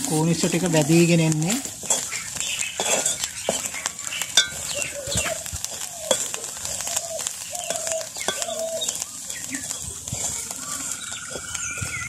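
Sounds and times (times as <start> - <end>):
light frying sizzle: 0.0 - 12.0
spatula scraping pot: 0.0 - 12.0.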